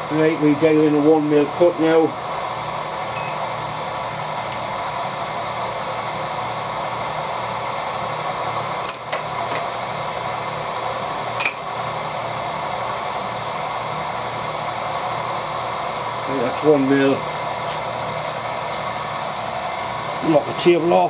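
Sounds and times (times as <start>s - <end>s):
milling machine running: 0.0s - 21.0s.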